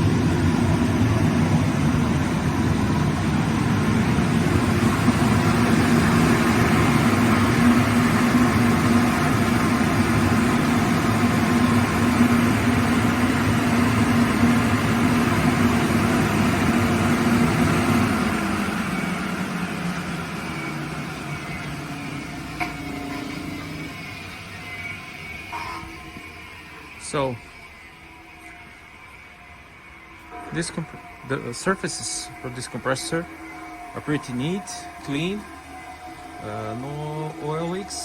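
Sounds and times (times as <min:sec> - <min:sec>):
air compressor running: 0:00.0 - 0:38.0.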